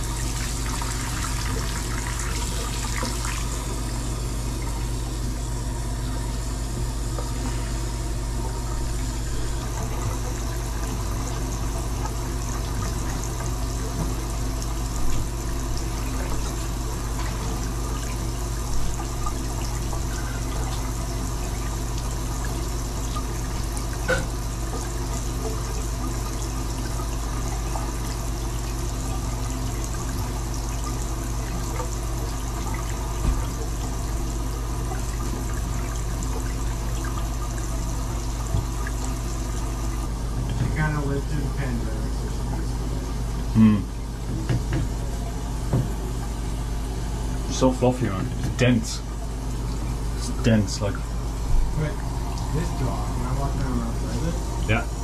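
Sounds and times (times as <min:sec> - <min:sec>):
low steady hum: 0:00.0 - 0:55.0
water running in bathtub: 0:00.0 - 0:55.0.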